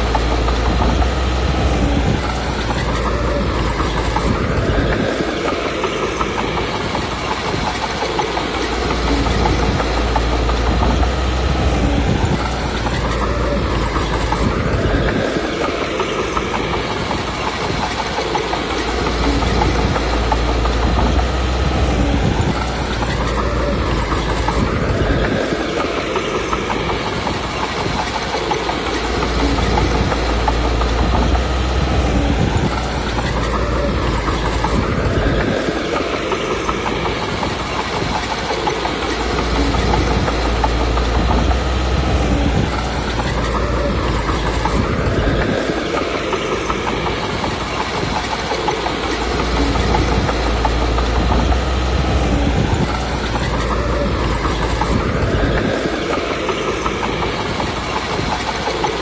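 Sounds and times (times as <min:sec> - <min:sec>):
diesel engine under load: 0:00.0 - 0:59.0
steel tracks clattering: 0:00.0 - 0:59.0.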